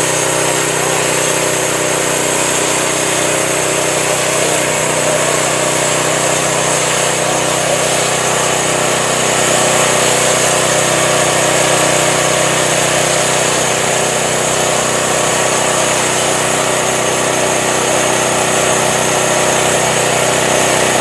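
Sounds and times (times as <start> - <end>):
band sawmill running: 0.0 - 21.0.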